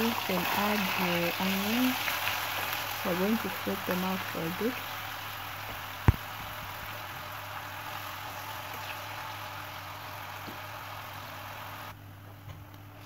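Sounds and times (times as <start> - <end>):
onions sizzling in oil: 0.0 - 11.9.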